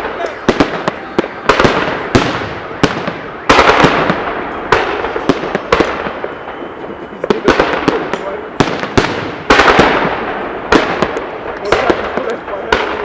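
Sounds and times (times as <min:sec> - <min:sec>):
firework bangs: 0:00.0 - 0:13.0
firework crackle: 0:00.0 - 0:13.0.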